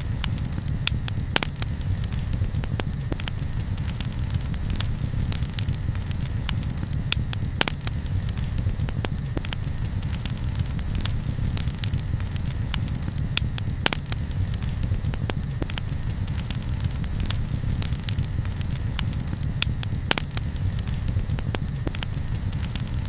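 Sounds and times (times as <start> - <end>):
campfire crackling: 0.0 - 23.0
steady low rumble: 0.0 - 23.0.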